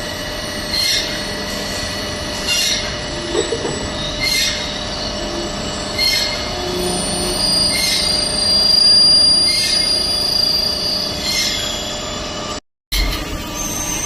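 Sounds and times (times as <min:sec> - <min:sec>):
metal machining noise: 0:00.0 - 0:14.0
high-pitched squeal: 0:00.5 - 0:14.0.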